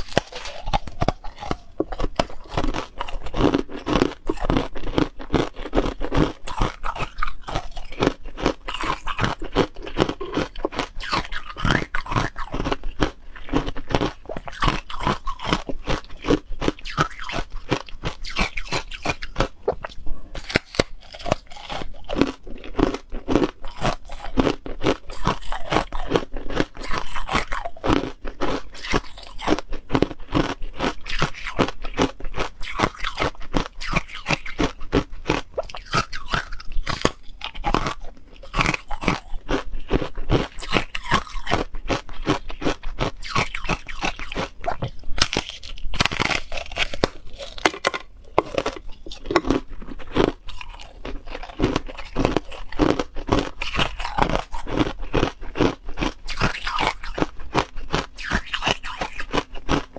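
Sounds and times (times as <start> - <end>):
ice crunching between teeth: 0.0 - 59.9.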